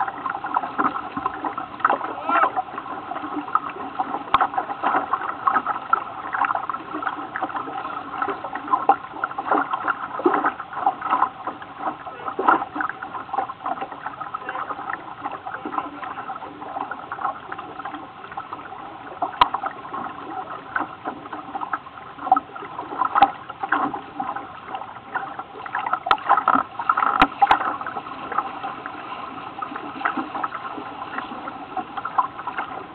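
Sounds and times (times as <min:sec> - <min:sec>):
water lapping against boat hull: 0:00.0 - 0:32.9.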